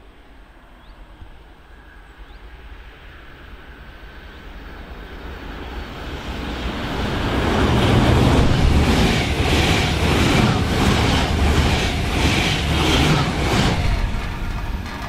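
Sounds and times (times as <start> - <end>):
electric train approaching: 0.0 - 15.0.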